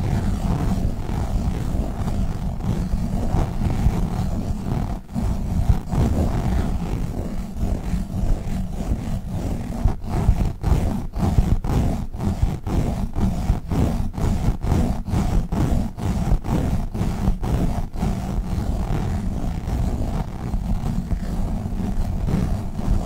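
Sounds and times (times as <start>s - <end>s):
squishy toy rubbing on microphone: 0.0s - 23.0s.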